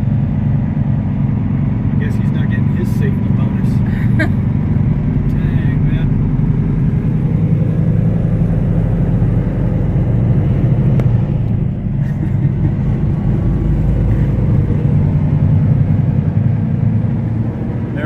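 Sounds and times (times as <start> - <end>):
road noise: 0.0 - 18.0
truck engine droning: 0.0 - 18.0.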